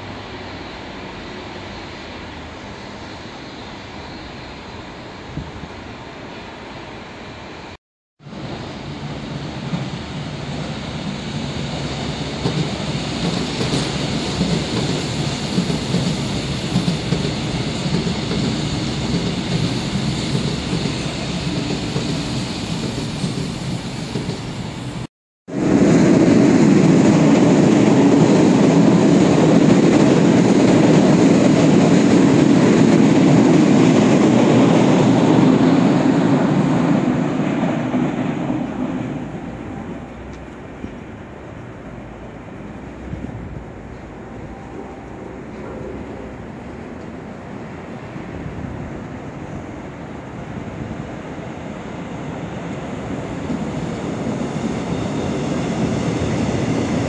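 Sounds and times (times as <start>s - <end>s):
train wheels rumbling and rattling: 8.4s - 57.0s.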